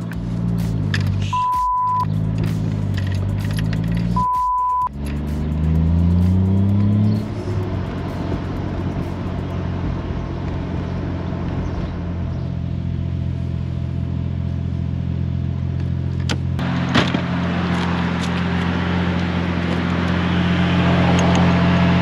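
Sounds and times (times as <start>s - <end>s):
car engine revving: 0.0s - 22.0s
road noise: 0.0s - 22.0s.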